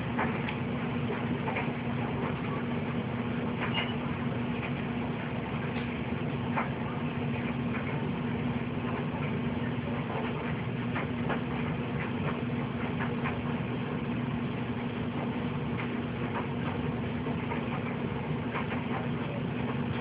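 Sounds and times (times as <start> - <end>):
low droning hum: 0.0 - 20.0.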